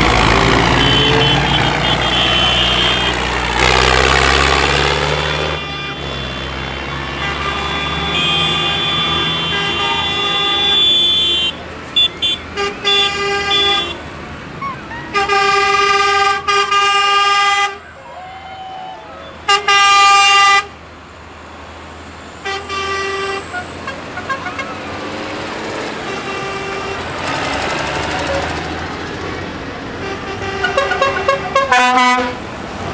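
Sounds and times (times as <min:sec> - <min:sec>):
tractor horns tooting: 0:00.0 - 0:20.8, 0:22.4 - 0:25.0, 0:25.7 - 0:28.7, 0:29.9 - 0:32.5
engines rumbling: 0:00.0 - 0:32.9.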